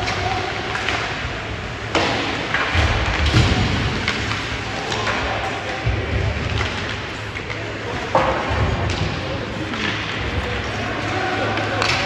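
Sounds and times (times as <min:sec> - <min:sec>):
arena background noise: 0:00.0 - 0:12.0
puck and players hitting boards: 0:00.0 - 0:12.0.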